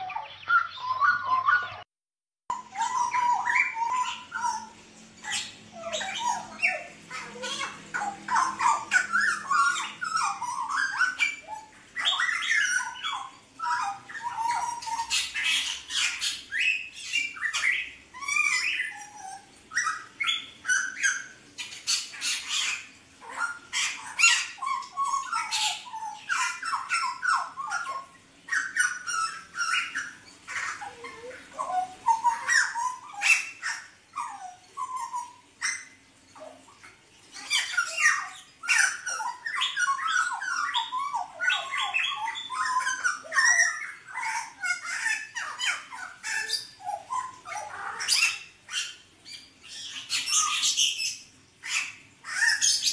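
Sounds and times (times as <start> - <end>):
bird chattering and whistling: 0.0 - 1.9, 2.5 - 52.9.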